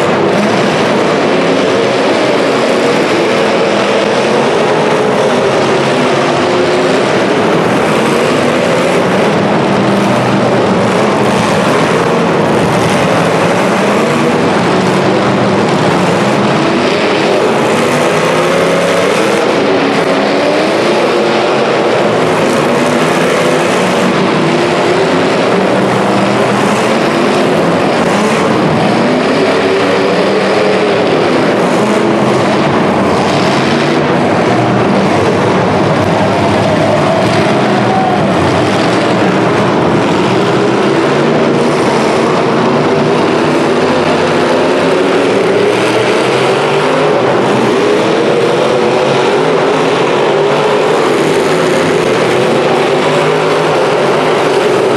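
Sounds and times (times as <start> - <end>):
car engines revving together: 0.0 - 54.9.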